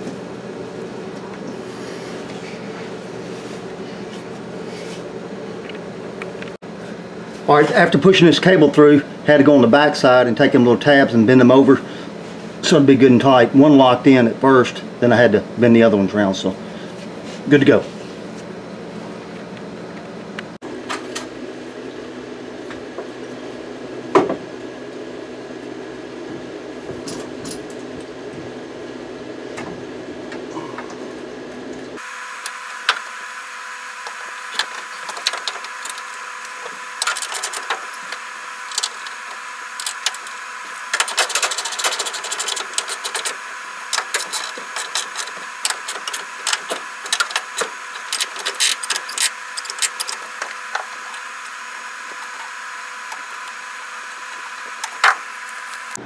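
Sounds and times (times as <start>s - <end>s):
steady hum: 0.0s - 56.0s.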